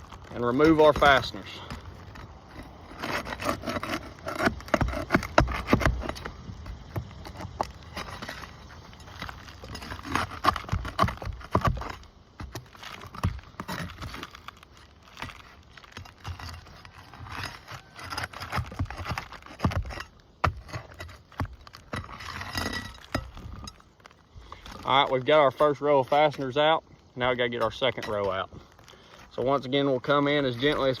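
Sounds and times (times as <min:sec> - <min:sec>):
pry bar scraping and knocking: 0:00.0 - 0:31.0.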